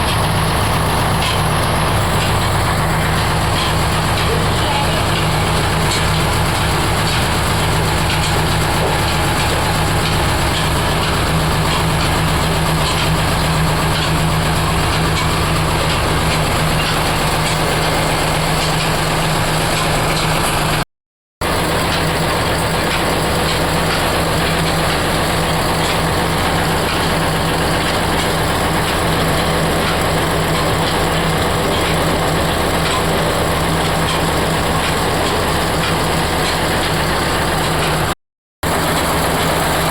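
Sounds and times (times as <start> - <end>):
oil expeller machine running: 0.0 - 20.8, 21.4 - 39.9.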